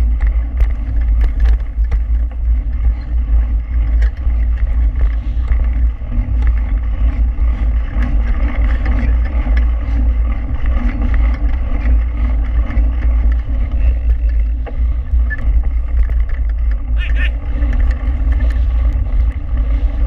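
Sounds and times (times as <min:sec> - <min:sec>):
gravel and bike rattles: 0:00.0 - 0:20.0
wind and tyre rumble: 0:00.0 - 0:20.0.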